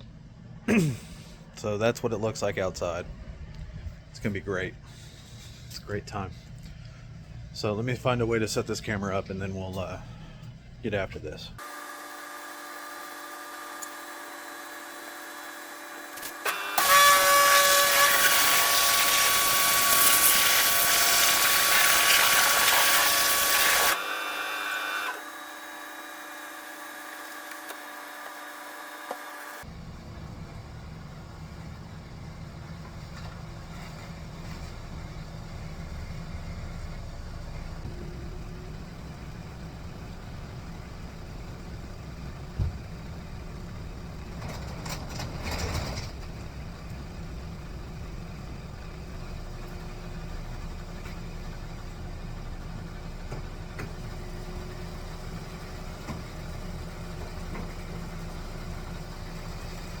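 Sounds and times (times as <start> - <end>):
low mechanical hum: 0.0 - 60.0.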